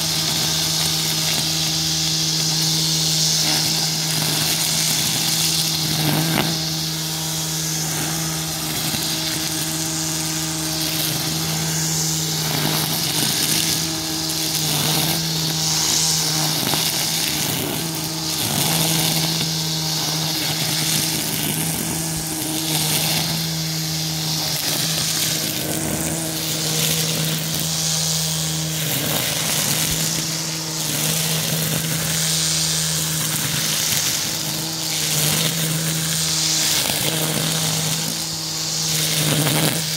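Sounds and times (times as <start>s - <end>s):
electric motor whine: 0.0s - 39.9s
trimmer line cutting grass: 0.0s - 39.9s.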